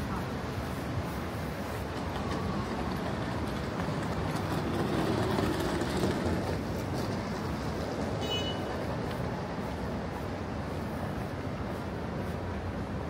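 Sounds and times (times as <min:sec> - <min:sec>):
low rumble of passing vehicles: 0:00.0 - 0:13.0.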